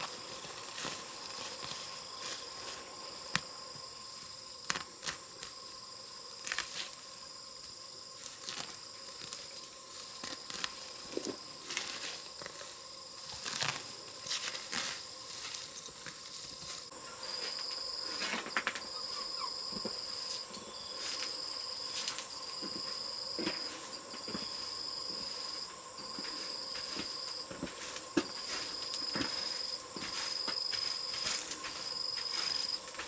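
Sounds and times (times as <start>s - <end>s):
insects trilling: 0.0s - 33.0s.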